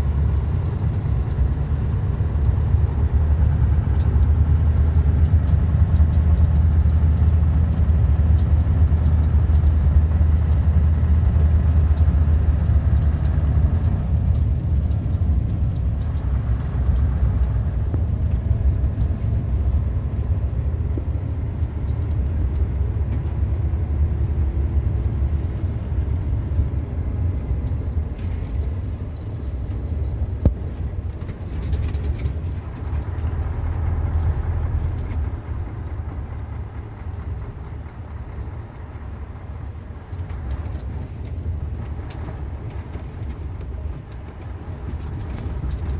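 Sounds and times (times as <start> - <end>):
truck engine and tyre rumble: 0.0 - 45.9.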